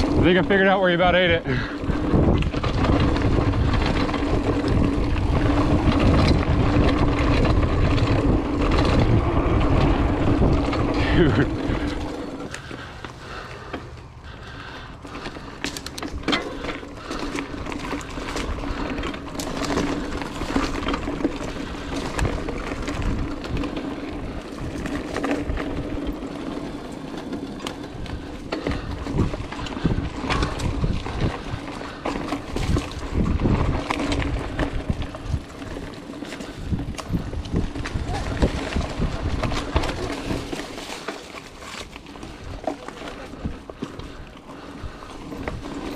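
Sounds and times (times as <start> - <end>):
wind rumble on microphone: 0.0 - 12.8, 14.2 - 40.9
bike knocks and rattles: 0.0 - 45.9
bike tyres rolling over dirt: 0.0 - 45.9.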